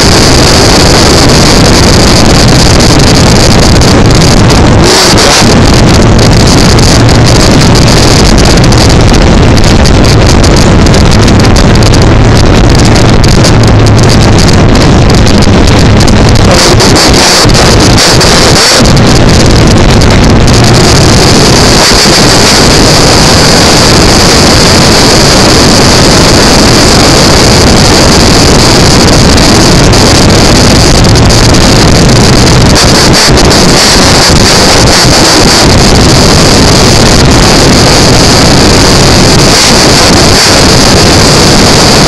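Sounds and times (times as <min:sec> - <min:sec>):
high-pitched screeching: 0:00.0 - 0:42.0
loud wind rush: 0:00.0 - 0:42.0
motorcycle engine: 0:00.0 - 0:42.0.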